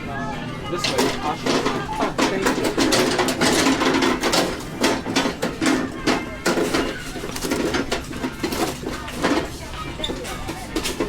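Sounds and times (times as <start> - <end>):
voices talking: 0.0 - 11.0
clatters of goods: 0.6 - 11.0.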